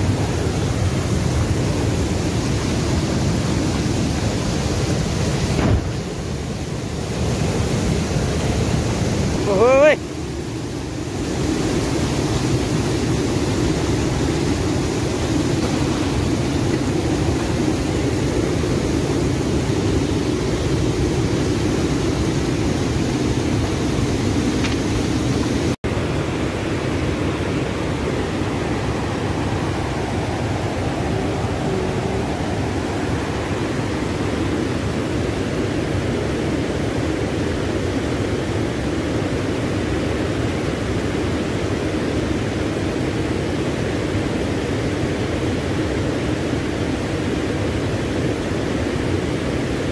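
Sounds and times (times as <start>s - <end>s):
river rapids rushing: 0.0s - 49.9s.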